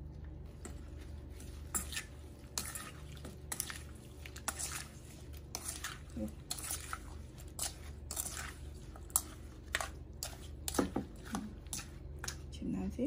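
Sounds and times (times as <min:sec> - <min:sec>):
soft squishing of salad: 0:00.0 - 0:12.6
spoon scraping and clinking bowl: 0:01.4 - 0:12.4.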